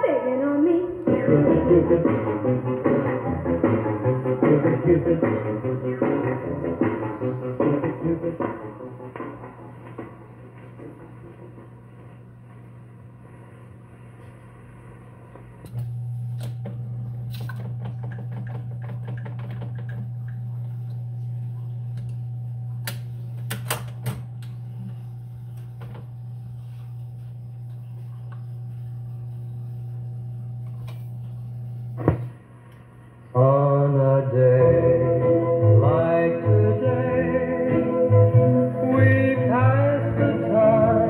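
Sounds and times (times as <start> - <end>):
jukebox motor hum: 1.0 - 41.0.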